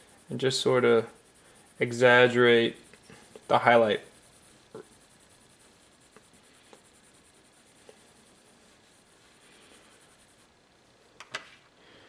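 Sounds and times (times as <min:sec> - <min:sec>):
pencil scratching on paper: 0:00.0 - 0:10.6.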